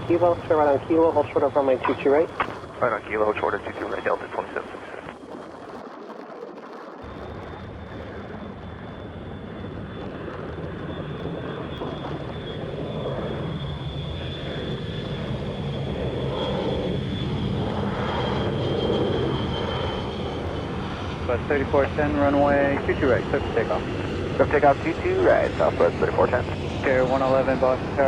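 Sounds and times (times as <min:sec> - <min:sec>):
high jet engine whine: 0:00.0 - 0:28.0
jet engines rushing and rumbling: 0:00.0 - 0:28.0.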